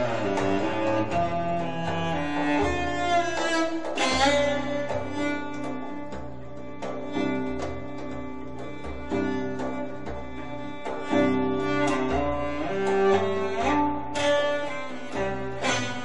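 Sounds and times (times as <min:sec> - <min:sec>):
drum strikes: 0:00.0 - 0:14.4
solo cello: 0:00.0 - 0:16.0.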